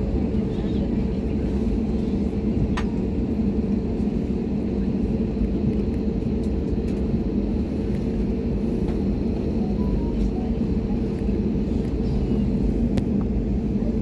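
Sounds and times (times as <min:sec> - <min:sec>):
airliner engines rumbling in cabin: 0:00.0 - 0:14.0.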